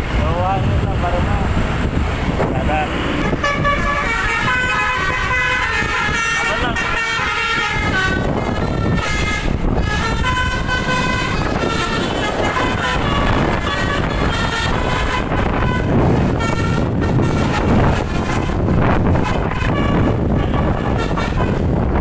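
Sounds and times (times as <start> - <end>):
low engine rumble: 0.0 - 22.0
road noise: 0.0 - 22.0.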